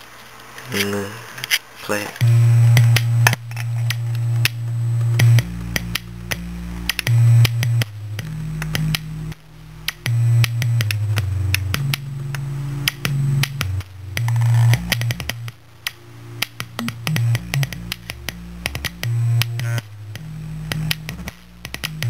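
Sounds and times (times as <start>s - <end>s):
heavy bass line: 2.2s - 22.0s
sharp clicking beat: 2.2s - 22.0s.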